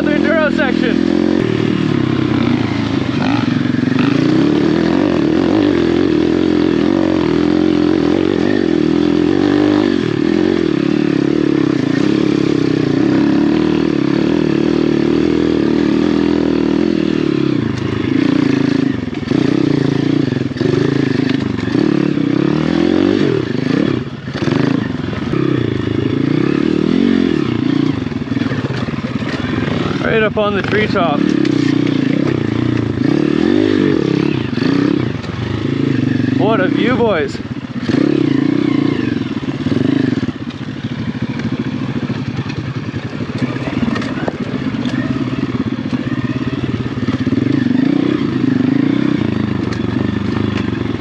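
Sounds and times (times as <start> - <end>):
pit bike engine revving: 0.0 - 51.0.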